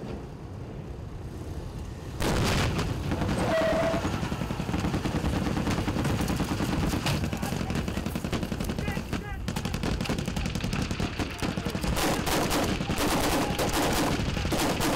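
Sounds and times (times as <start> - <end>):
vehicle engines running: 0.0 - 14.9
loud blast: 2.2 - 14.9
rapid rifle gunfire: 2.2 - 14.9.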